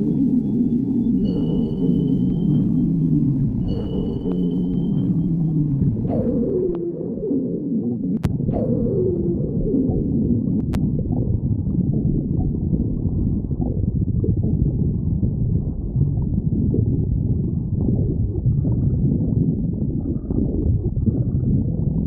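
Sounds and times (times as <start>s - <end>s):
stomach gurgling: 0.0s - 22.0s.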